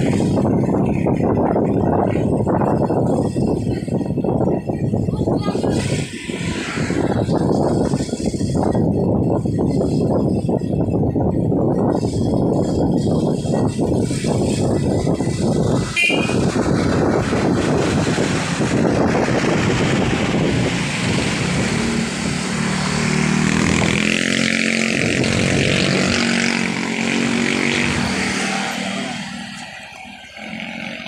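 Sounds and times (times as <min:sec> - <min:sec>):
motorcycle riding: 0:00.0 - 0:31.0
wind buffeting microphone: 0:00.0 - 0:31.0.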